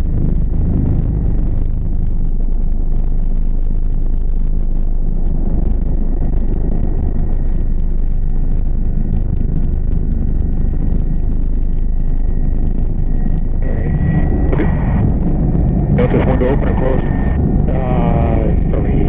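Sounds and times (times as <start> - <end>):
faint turbine whine: 0.0 - 19.0
helicopter rotor rumble: 0.0 - 19.0.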